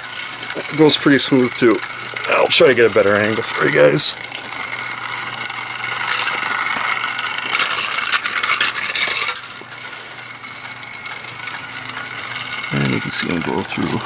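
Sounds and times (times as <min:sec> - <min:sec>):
plastic wheels clicking on track: 0:00.0 - 0:14.0
small electric motor whirring: 0:00.0 - 0:14.0.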